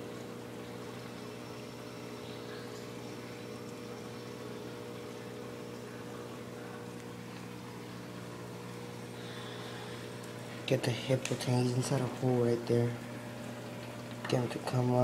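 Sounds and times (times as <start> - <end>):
circulating water hiss: 0.0 - 15.0
water pump humming: 0.0 - 15.0.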